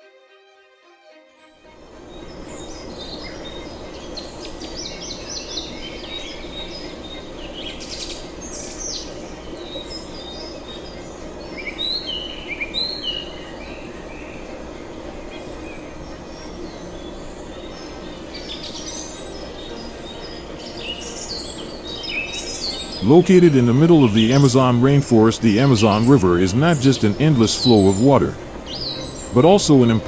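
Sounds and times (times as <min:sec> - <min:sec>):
steady background hiss: 0:01.6 - 0:30.0
birds chirping and calling: 0:01.8 - 0:30.0
downward-slurring bird calls: 0:01.8 - 0:30.0.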